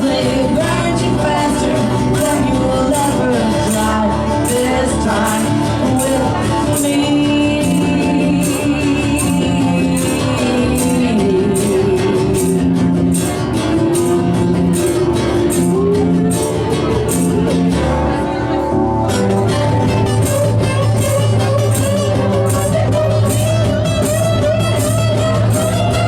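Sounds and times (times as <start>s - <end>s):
electric guitar line: 0.0s - 26.0s
live rock band playing: 0.0s - 26.0s.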